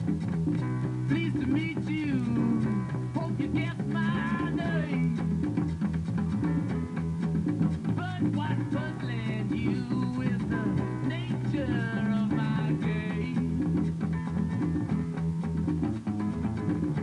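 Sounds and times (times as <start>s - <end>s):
band music with guitar and bass: 0.0s - 17.0s.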